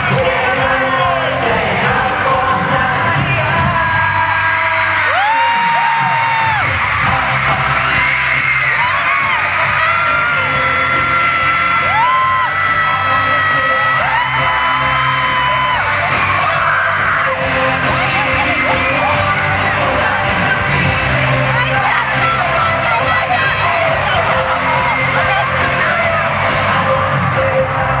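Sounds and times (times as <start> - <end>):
fans screaming: 0.0 - 28.0
pop music with group singing: 0.0 - 28.0.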